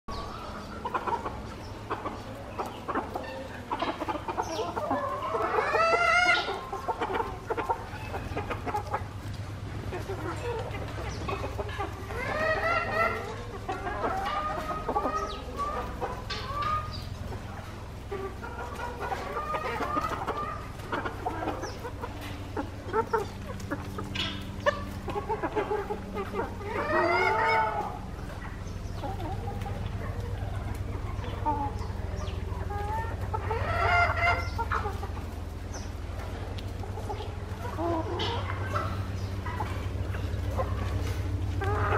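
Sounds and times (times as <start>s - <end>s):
chickens clucking: 0.1s - 41.9s
drawn-out chicken calls: 0.1s - 41.9s
low steady hum: 0.1s - 41.9s.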